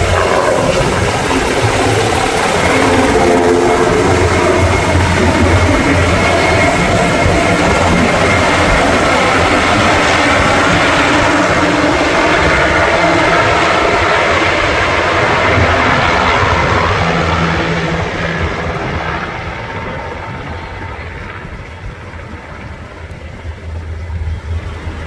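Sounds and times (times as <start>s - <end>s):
helicopter flying overhead: 0.0s - 25.0s.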